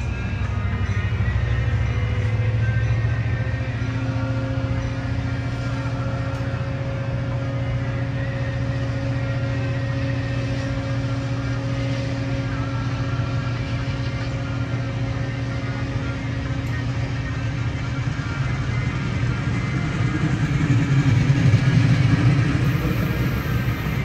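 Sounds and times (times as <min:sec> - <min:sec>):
diesel locomotive engine hum: 0:00.0 - 0:24.0.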